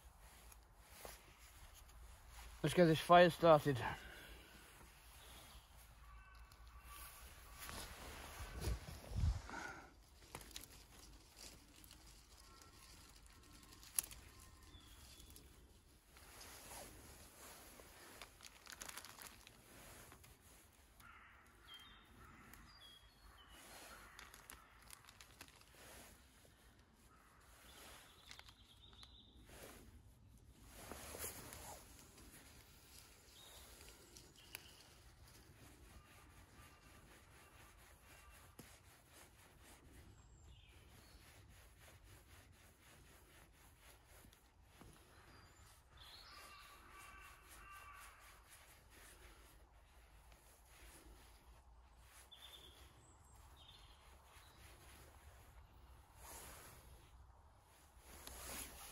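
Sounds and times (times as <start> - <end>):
faint bird calls: 0.0 - 42.7, 44.1 - 57.1.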